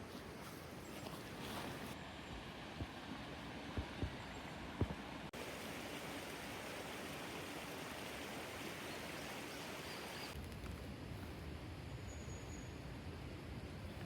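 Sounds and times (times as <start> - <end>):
outdoor night ambience hiss: 0.0 - 14.0.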